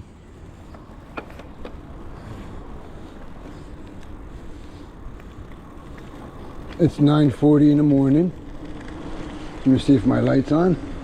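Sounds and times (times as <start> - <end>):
road rumble: 0.0 - 11.0.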